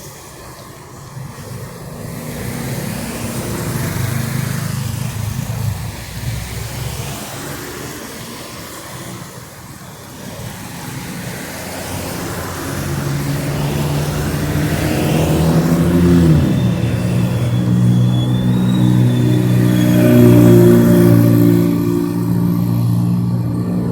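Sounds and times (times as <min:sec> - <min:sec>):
vehicle engine approaching: 0:01.4 - 0:23.9.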